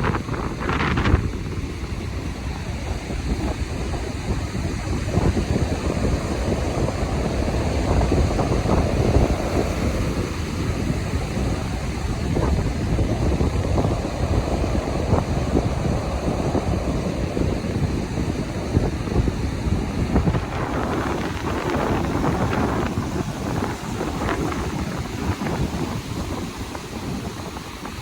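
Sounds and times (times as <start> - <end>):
ocean surf: 0.0 - 28.0
wind buffeting microphone: 0.0 - 28.0.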